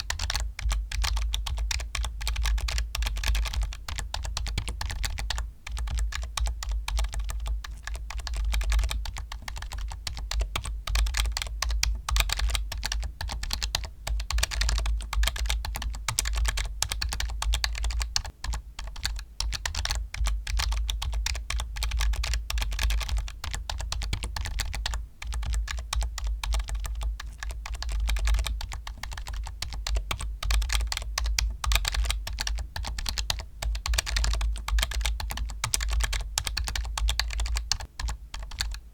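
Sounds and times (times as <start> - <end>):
fast typing on keyboard: 0.0 - 38.8.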